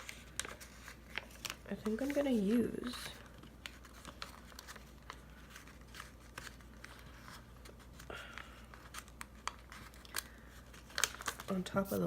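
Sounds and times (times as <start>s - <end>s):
sticker sheets rustling: 0.0s - 12.0s.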